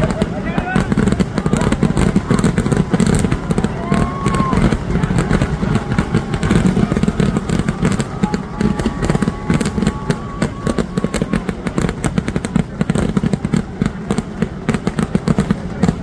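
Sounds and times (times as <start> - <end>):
fireworks low booms: 0.0 - 16.0
fireworks sharp bangs: 0.0 - 16.0.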